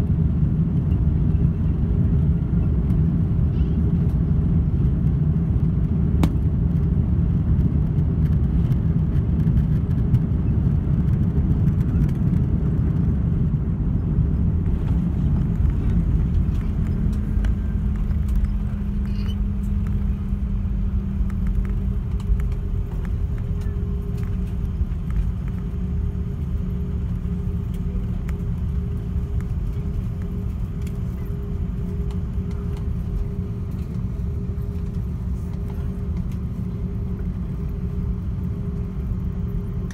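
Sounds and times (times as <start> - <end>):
rumble of engines and wheels: 0.0 - 39.9
steady engine hum: 0.0 - 39.9.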